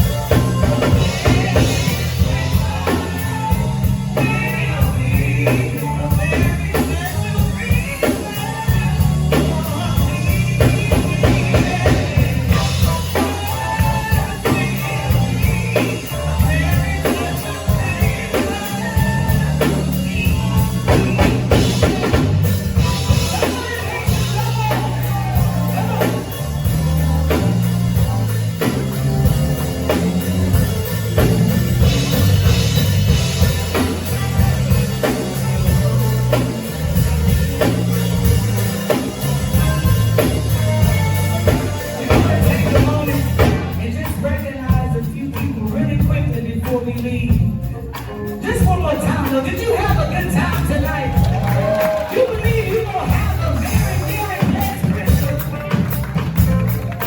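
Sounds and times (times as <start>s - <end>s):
bass line: 0.0s - 57.0s
live band music: 0.0s - 57.0s
person singing: 0.0s - 57.0s.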